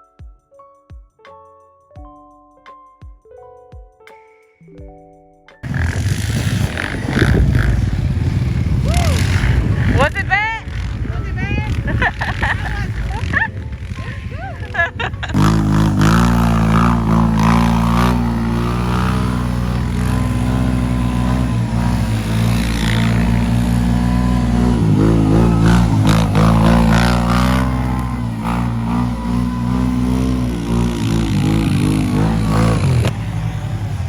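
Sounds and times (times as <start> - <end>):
atv engine running: 5.6 - 34.0.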